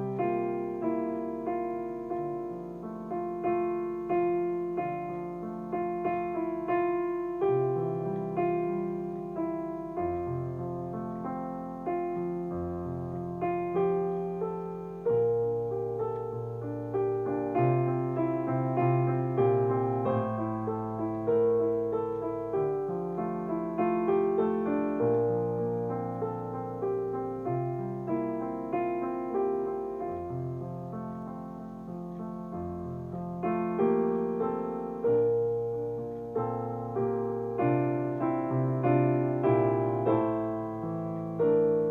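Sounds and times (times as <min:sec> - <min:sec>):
slow gentle piano music: 0:00.0 - 0:41.9.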